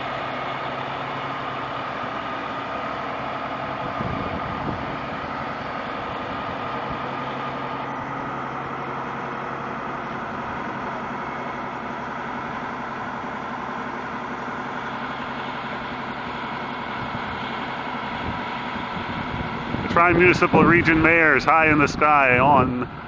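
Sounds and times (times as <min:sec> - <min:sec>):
fire truck engine idling: 0:00.0 - 0:23.0.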